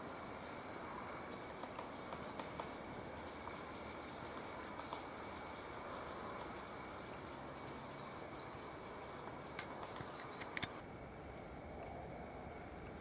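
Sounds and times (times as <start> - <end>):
songbirds chirping: 0.0 - 10.8
steady background hiss: 0.0 - 13.0.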